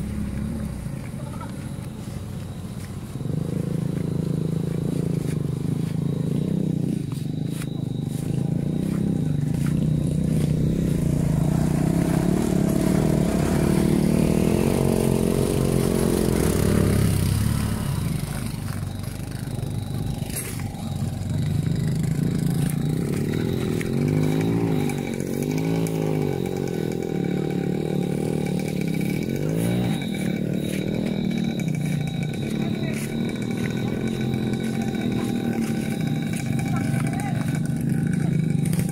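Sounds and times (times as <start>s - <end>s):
motorcycles revving: 0.0s - 38.9s.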